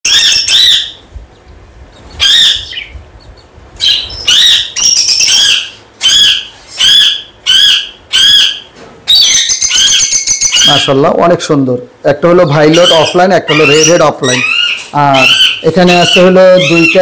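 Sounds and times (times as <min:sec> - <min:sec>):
lovebirds squawking: 0:00.0 - 0:11.2, 0:12.3 - 0:17.0.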